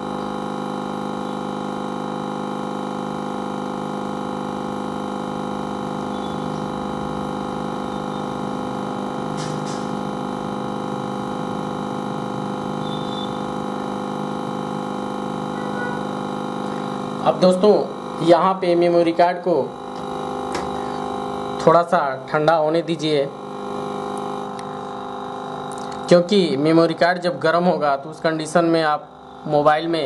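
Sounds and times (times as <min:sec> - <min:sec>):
hot-air station blowing: 0:00.0 - 0:30.0.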